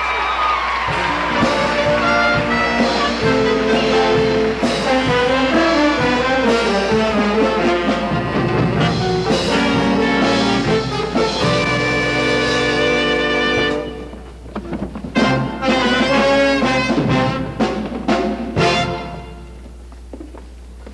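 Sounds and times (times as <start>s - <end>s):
brass band playing held chords: 0.8s - 14.4s, 15.1s - 19.8s.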